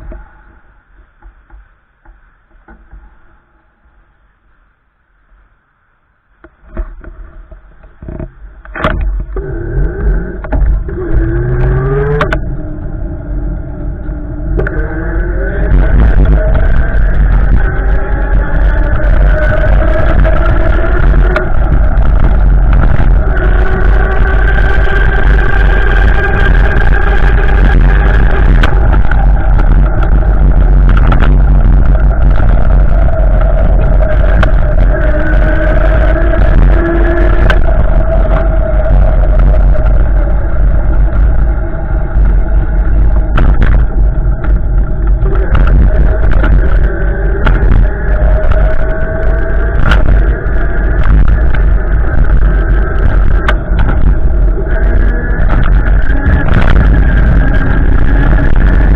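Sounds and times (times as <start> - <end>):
wind buffeting microphone: 7.0 - 58.9
droning tone sliding in pitch: 9.2 - 58.9.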